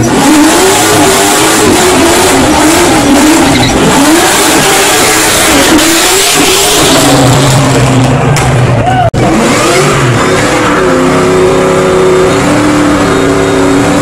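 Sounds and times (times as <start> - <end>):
car engine at high revs: 0.0 - 14.0.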